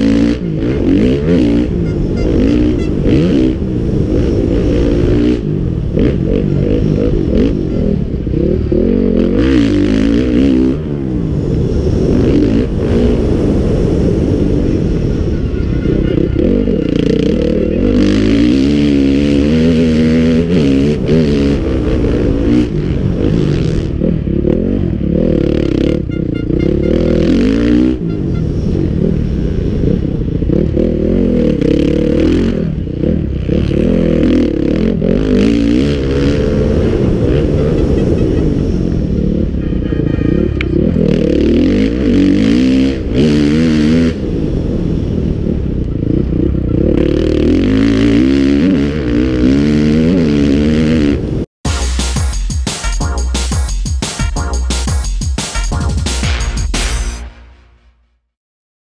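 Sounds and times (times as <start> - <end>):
motocross bike engine revving: 0.0 - 52.3.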